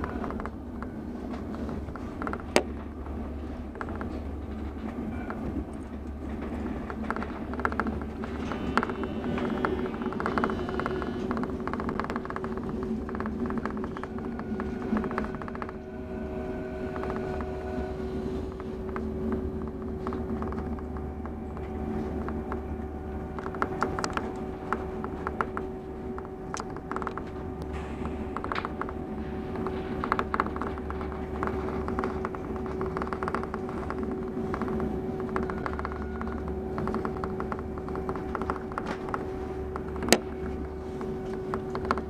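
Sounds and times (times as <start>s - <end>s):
train hum: 0.0s - 42.0s
train rumble: 0.0s - 42.0s.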